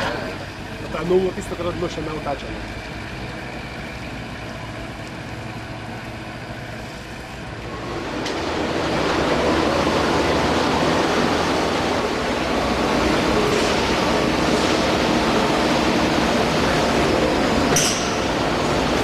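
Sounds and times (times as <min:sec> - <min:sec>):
forklift running: 0:00.0 - 0:19.0.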